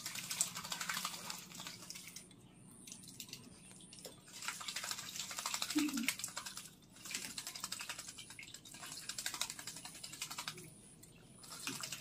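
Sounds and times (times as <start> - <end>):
bird splashing in water: 0.0 - 2.3, 2.9 - 10.7, 11.4 - 12.0.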